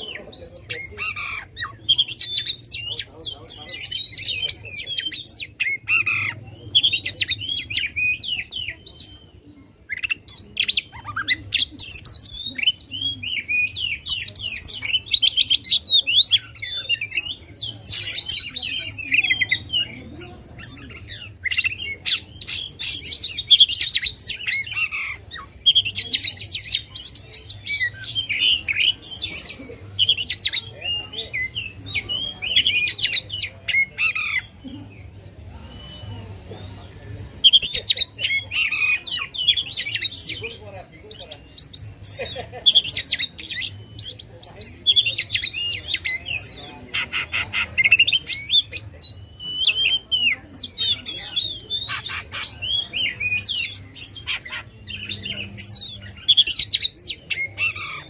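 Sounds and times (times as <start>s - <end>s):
bird singing whistles and trills: 9.9s - 58.0s.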